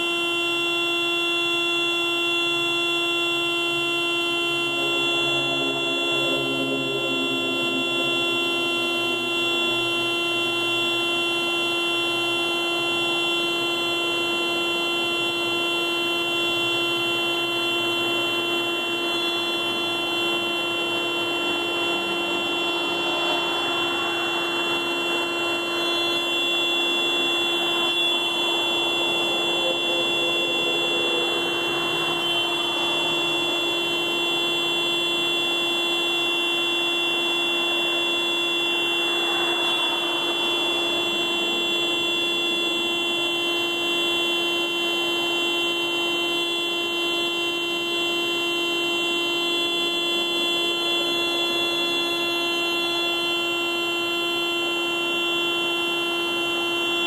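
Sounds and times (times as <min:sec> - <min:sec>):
car alarm steady tone: 0:00.0 - 0:57.0.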